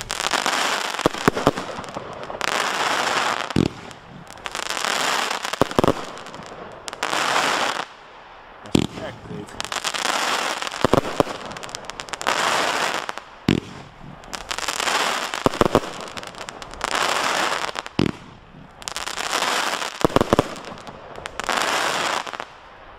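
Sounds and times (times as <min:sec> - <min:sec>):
firework bangs: 0:00.0 - 0:08.0, 0:08.6 - 0:22.5
firework stars crackling: 0:00.0 - 0:22.9.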